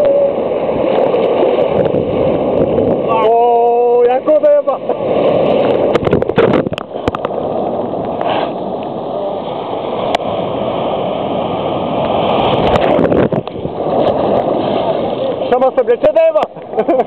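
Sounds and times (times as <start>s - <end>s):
water splashing against camera: 0.0s - 10.9s, 11.8s - 17.0s
sea surf rushing: 0.0s - 17.0s.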